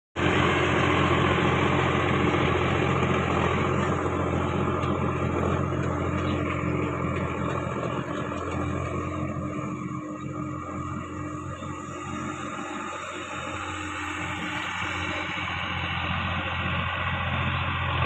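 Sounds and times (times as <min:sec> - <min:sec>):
engine running with low hum: 0:00.2 - 0:18.0.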